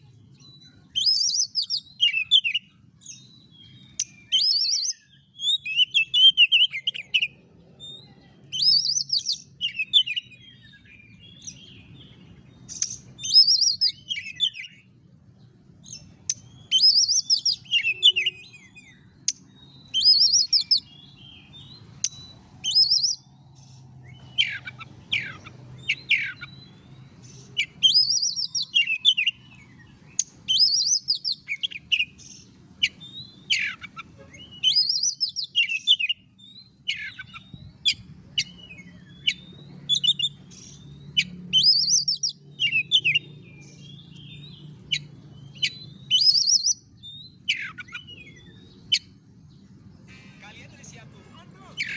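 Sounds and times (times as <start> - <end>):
songbird whistling and chattering: 0.3 - 14.9, 15.8 - 49.2, 50.1 - 51.9.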